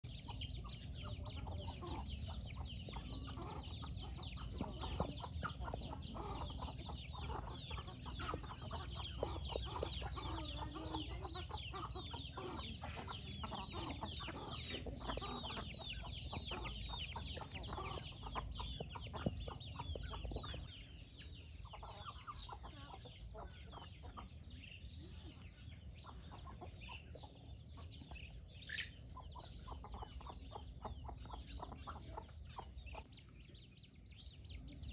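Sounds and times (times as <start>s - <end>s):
chicks peeping and hens clucking: 0.0s - 34.9s.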